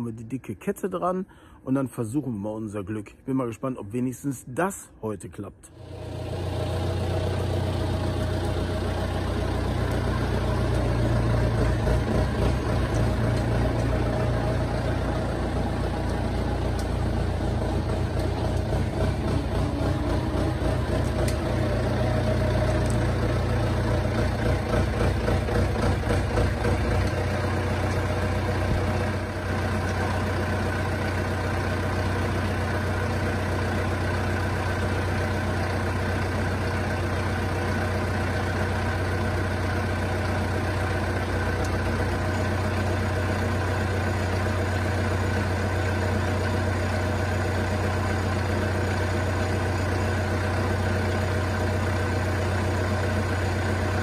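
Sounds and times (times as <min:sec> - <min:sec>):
diesel engine idling: 0:05.6 - 0:54.0.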